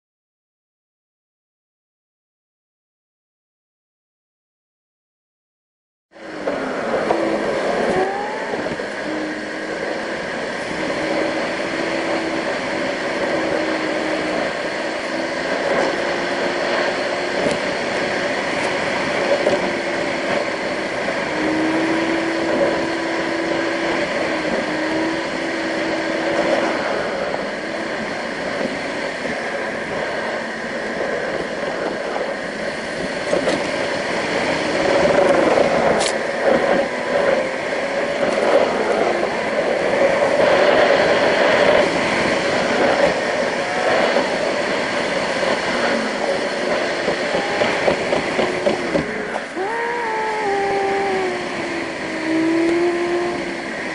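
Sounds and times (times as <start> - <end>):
car engine: 6.2 - 31.9, 32.8 - 53.9.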